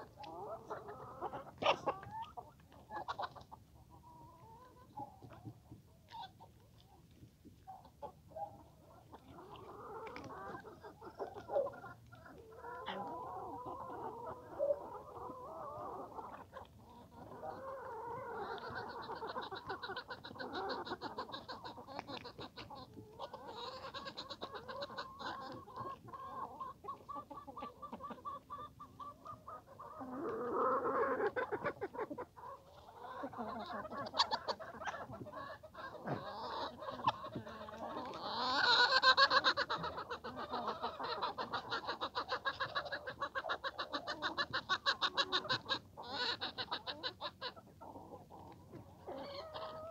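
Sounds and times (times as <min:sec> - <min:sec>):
hens clucking: 0:00.0 - 0:49.9.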